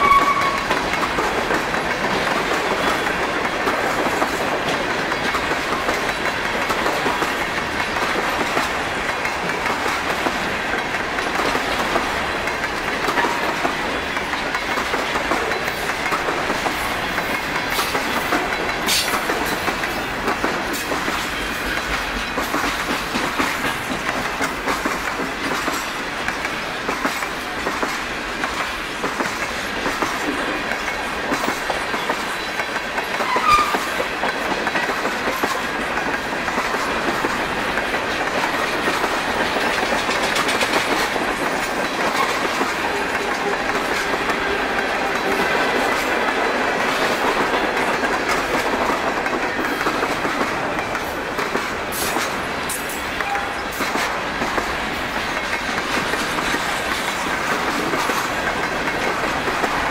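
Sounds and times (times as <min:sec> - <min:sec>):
clickety-clack over rail joints: 0:00.0 - 0:59.9
freight train wheels rumbling: 0:00.0 - 0:59.9.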